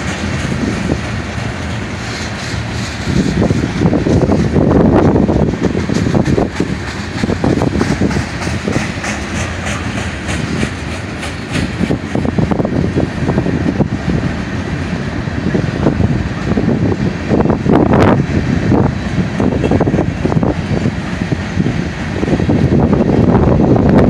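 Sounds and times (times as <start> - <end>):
rumble of train wheels on rail: 0.0 - 24.0.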